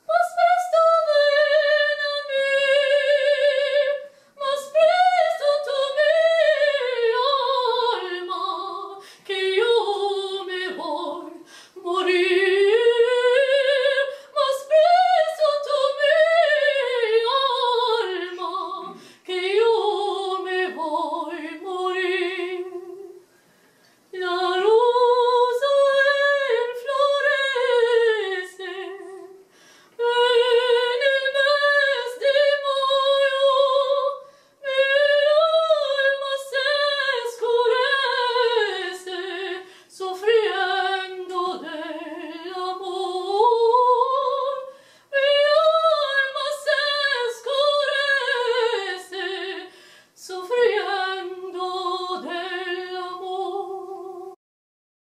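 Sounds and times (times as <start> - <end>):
woman singing unaccompanied: 0.0 - 23.2, 24.1 - 54.4.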